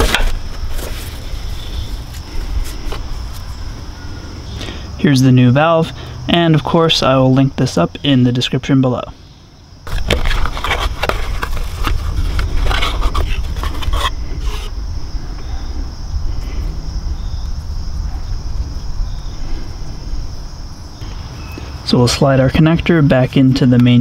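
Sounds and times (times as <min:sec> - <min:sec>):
constant low rumble: 0:00.0 - 0:24.0
crickets chirping: 0:00.0 - 0:24.0.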